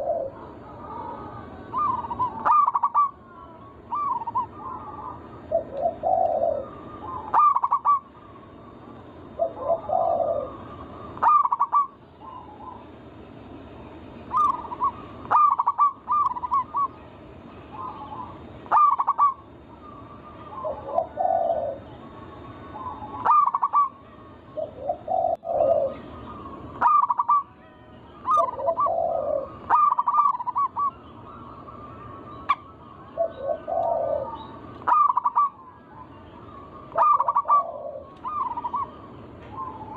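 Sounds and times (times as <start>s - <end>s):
dove cooing: 0.0s - 13.0s, 14.3s - 17.0s, 17.7s - 27.5s, 28.2s - 39.9s.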